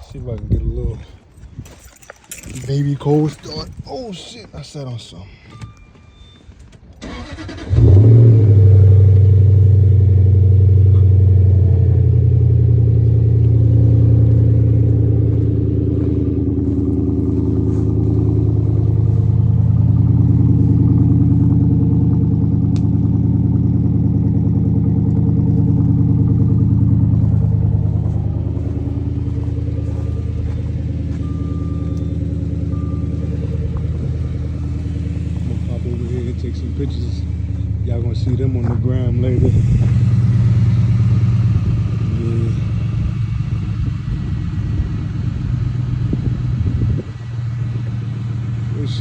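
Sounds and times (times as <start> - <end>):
car engine revving and idling: 7.0 - 49.0.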